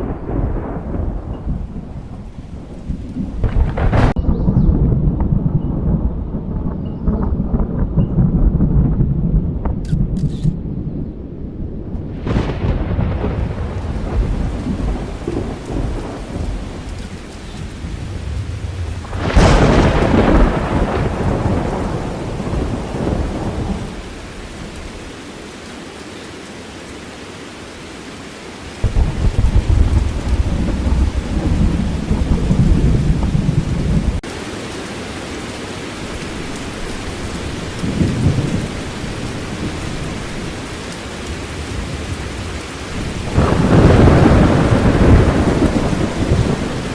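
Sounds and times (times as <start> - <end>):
wind buffeting in gusts: 0.0 - 25.5, 28.7 - 34.8, 35.8 - 46.9
rain falling: 0.0 - 46.9.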